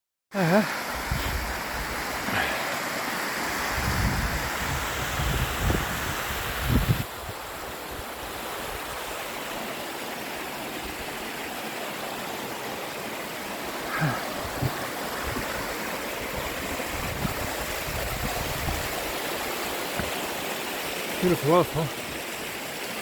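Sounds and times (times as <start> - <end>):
waterfall rushing and splashing: 0.4 - 23.0.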